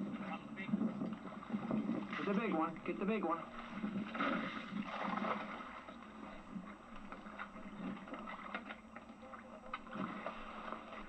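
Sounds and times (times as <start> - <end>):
steady hum: 0.0 - 11.0
water noise: 0.0 - 11.0.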